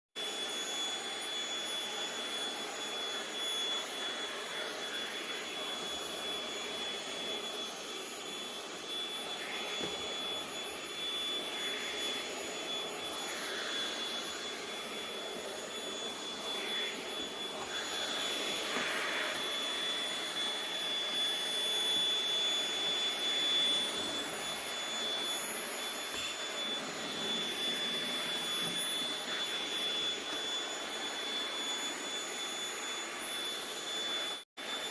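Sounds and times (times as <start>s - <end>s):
vacuum cleaner running: 0.2s - 34.9s.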